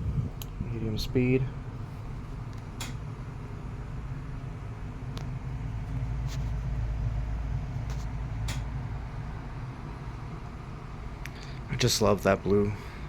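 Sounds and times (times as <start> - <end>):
furnace running: 0.0 - 13.0
table fan humming: 0.0 - 13.0.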